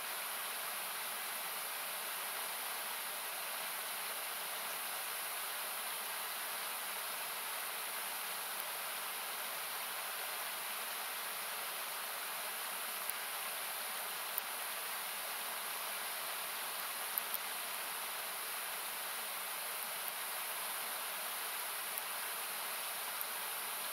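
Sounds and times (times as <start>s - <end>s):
faint campfire crackle: 0.0s - 23.9s
river rushing: 0.0s - 23.9s.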